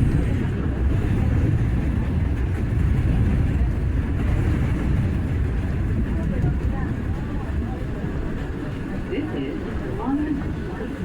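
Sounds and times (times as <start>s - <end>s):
subway car rumbling: 0.0s - 11.0s.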